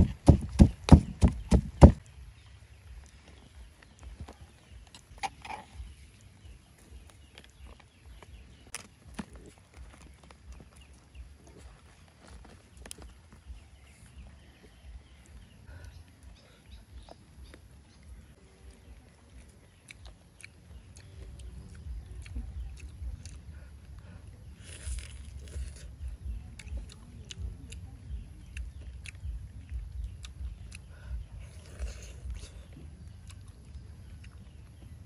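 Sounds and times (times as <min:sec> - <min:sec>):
crunchy chewing of raw vegetables: 0:00.0 - 0:35.0.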